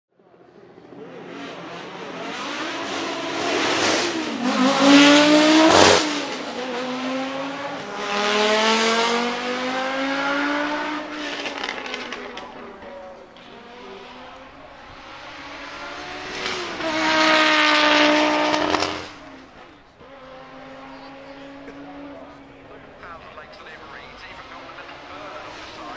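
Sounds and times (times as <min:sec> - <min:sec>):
rally car engine accelerating: 0:00.2 - 0:25.9.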